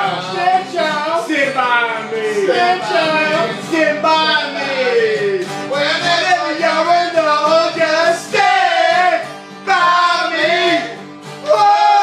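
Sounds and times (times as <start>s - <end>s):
men singing loudly: 0.0s - 12.0s
strummed acoustic guitars: 0.0s - 12.0s.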